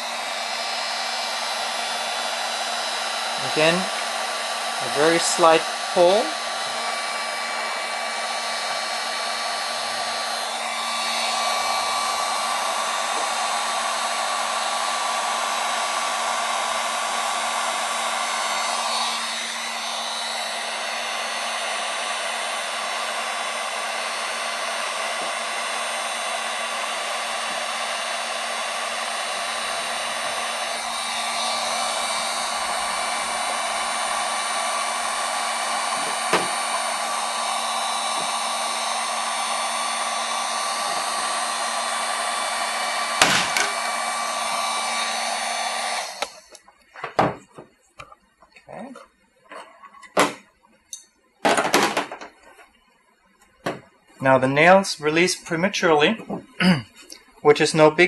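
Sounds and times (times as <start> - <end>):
heat gun blowing: 0.0 - 47.4.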